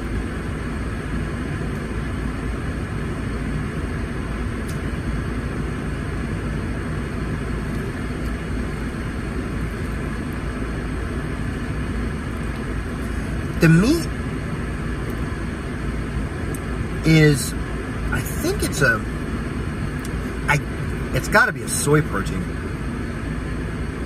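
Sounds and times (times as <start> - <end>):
car cabin rumble and hiss: 0.0 - 24.0.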